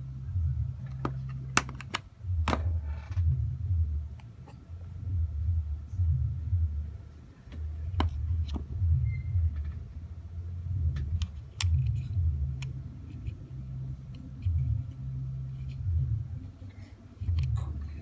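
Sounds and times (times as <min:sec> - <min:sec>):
low uneven rumble: 0:00.0 - 0:18.0.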